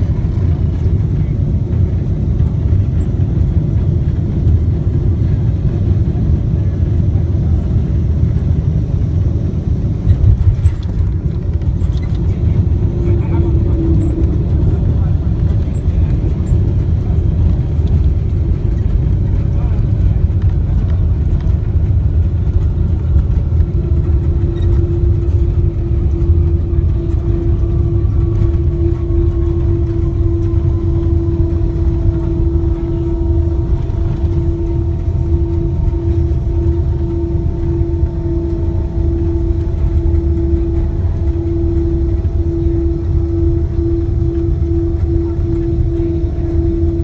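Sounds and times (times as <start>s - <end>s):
faint engine whine falling in pitch: 0.0s - 47.0s
low rumble of wheels and engines: 0.0s - 47.0s
steady hum: 0.0s - 47.0s.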